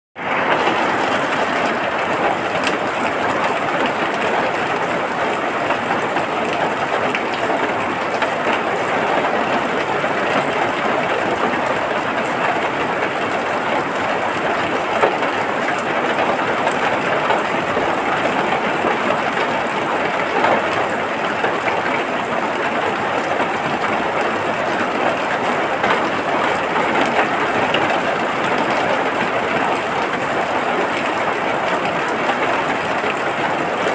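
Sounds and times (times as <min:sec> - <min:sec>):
steady rain: 0:00.2 - 0:33.9.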